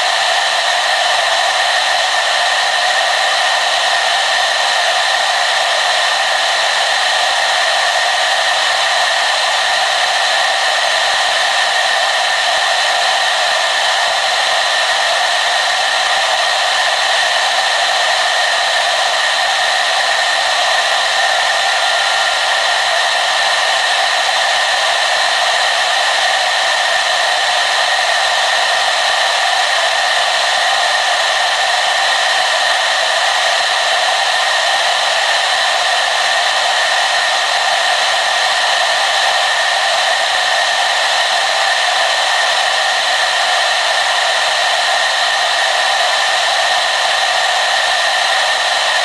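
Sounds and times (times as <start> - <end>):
hair dryer running: 0.0 - 49.0.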